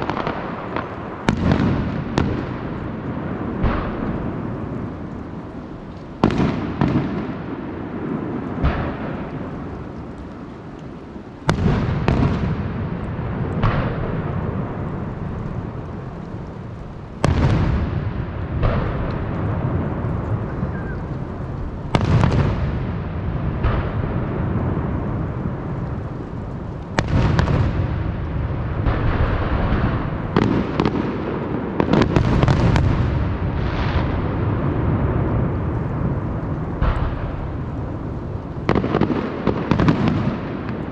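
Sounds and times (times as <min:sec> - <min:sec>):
fireworks booming: 0:00.0 - 0:40.9.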